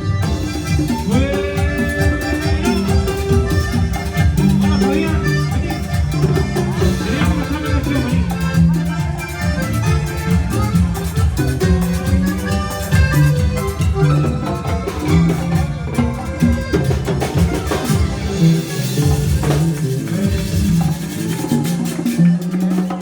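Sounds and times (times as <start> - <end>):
live band playing latin dance music: 0.0 - 23.0.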